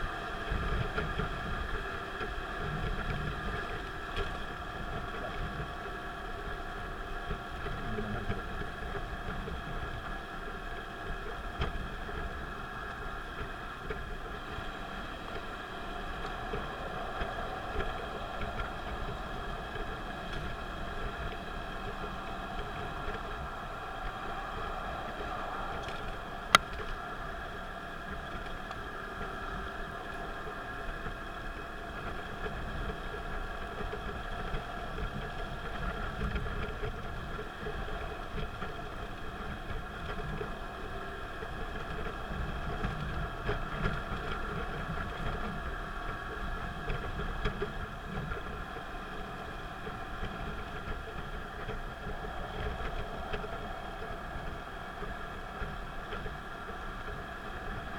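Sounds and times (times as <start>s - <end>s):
car engine and tyre rumble: 0.0s - 57.9s
faint constant hum: 0.0s - 57.9s.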